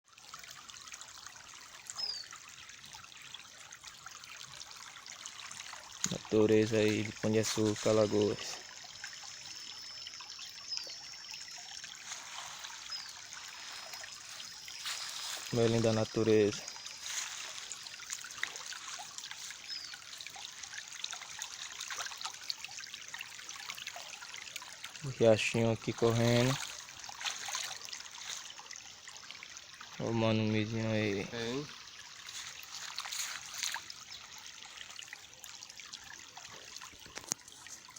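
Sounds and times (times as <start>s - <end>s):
stream trickling and babbling: 0.0s - 37.9s.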